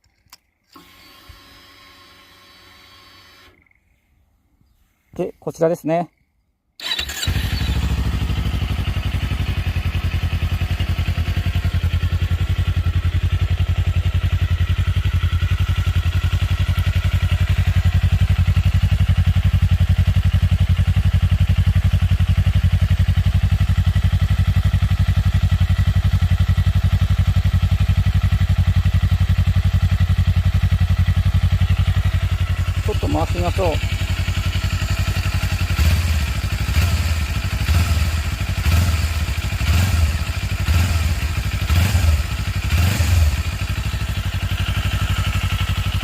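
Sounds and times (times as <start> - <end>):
motorcycle engine idling: 6.8 - 46.0.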